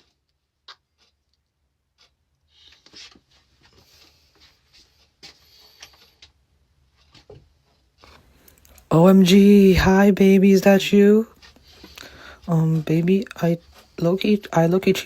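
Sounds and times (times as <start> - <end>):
soft rustling: 0.0 - 15.0.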